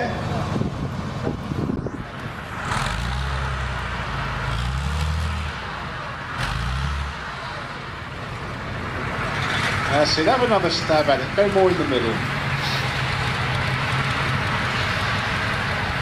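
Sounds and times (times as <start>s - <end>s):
heavy diesel truck engine: 0.0s - 16.0s.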